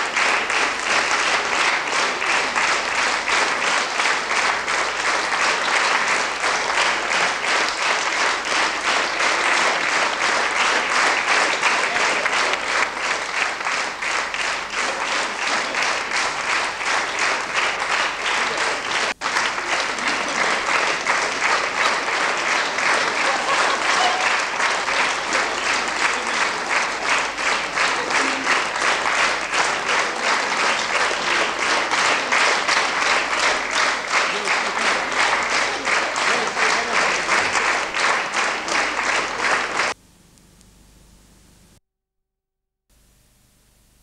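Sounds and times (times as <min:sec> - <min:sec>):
audience applauding: 0:00.0 - 0:40.0.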